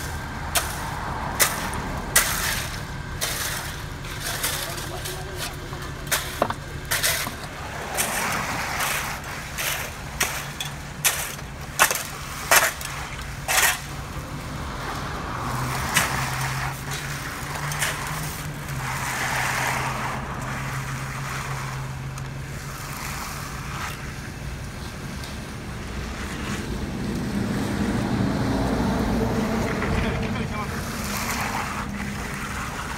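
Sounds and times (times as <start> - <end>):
shovels scraping wet concrete: 0.0 - 27.7, 29.0 - 32.9
concrete mixer truck engine: 0.0 - 32.9.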